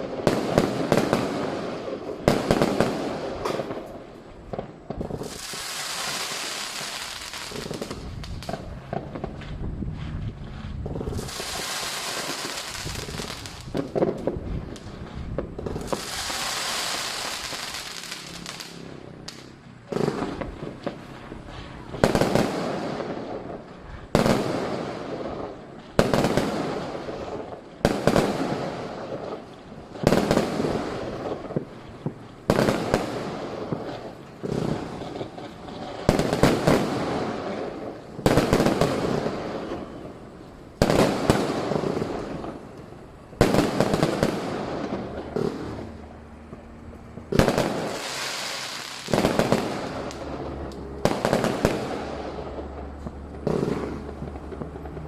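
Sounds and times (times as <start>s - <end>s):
fireworks banging: 0.0s - 55.0s.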